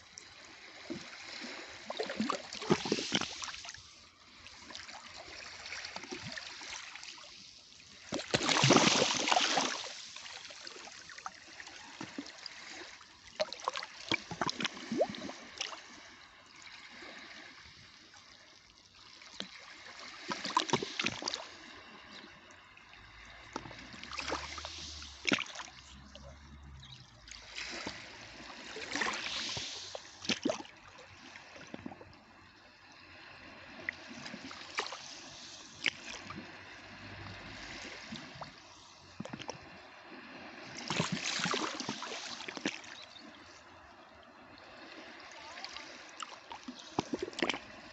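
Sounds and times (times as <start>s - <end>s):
sea water splashing at shore: 0.2s - 32.2s, 32.8s - 47.9s.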